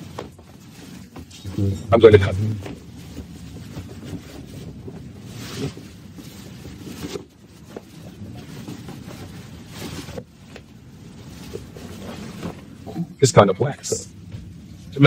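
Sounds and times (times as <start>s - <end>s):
wetsuit rustling and rubbing: 0.0s - 13.0s.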